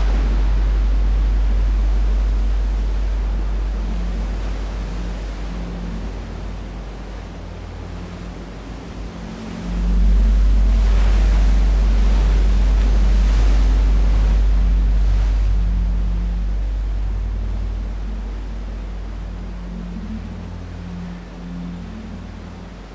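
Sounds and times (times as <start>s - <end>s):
deep electronic drone: 0.0s - 22.9s
held low tones: 0.0s - 22.9s
rushing surf-like noise: 0.0s - 22.9s.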